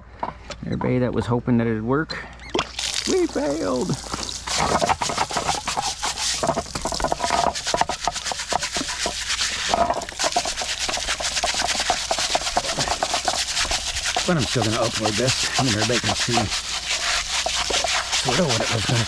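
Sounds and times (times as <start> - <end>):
hand brush scrubbing metal: 3.1 - 19.0.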